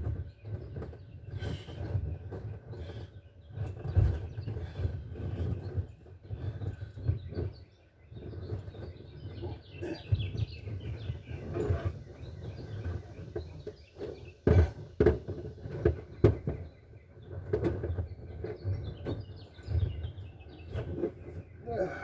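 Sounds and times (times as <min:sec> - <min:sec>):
birds chirping: 0:00.2 - 0:22.0.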